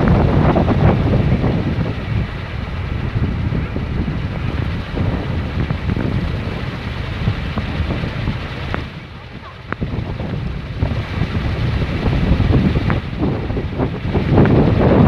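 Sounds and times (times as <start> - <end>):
wind buffeting microphone: 0.0 - 15.0
wooden propeller spinning rumble: 0.0 - 15.0.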